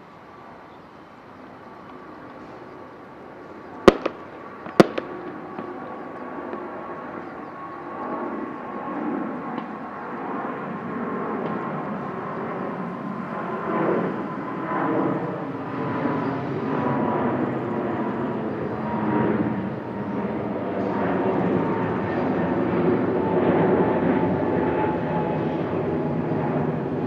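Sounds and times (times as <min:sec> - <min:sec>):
faint engine whine: 0:00.0 - 0:27.0
jet engines roaring: 0:00.0 - 0:27.0.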